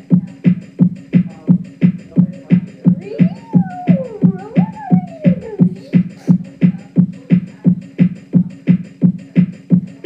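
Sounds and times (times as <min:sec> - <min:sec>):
electronic keyboard beat of low thumps: 0:00.0 - 0:10.0.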